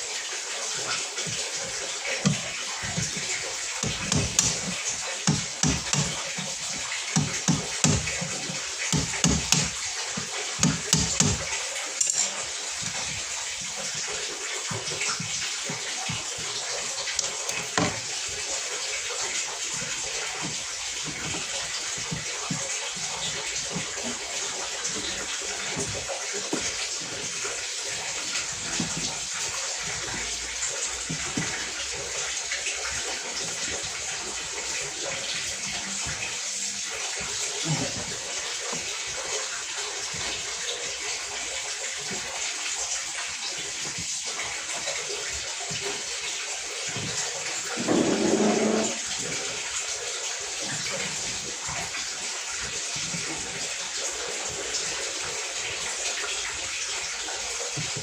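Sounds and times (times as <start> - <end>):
water running splashing: 0.0 - 58.0.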